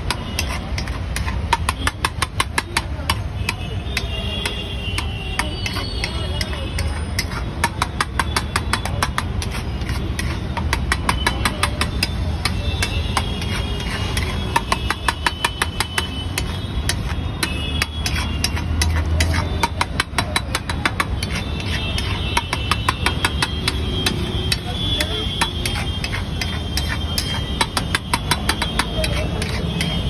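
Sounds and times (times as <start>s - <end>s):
metal masher clattering on iron pan: 0.0s - 30.0s.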